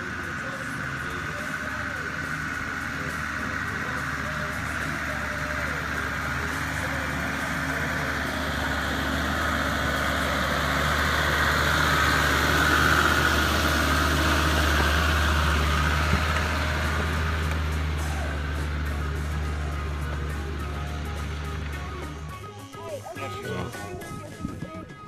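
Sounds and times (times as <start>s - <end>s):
vehicle engine at low revs: 0.0s - 25.0s.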